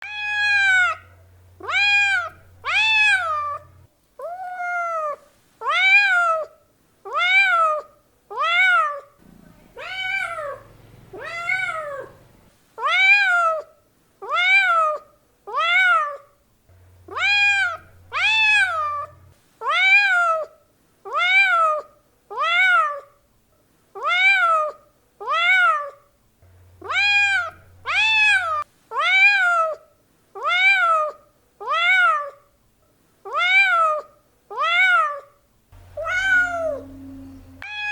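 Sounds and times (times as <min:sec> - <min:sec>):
cat meowing: 0:00.0 - 0:16.4, 0:17.1 - 0:20.5, 0:21.1 - 0:23.2, 0:24.0 - 0:26.1, 0:26.8 - 0:29.8, 0:30.4 - 0:32.5, 0:33.3 - 0:37.9.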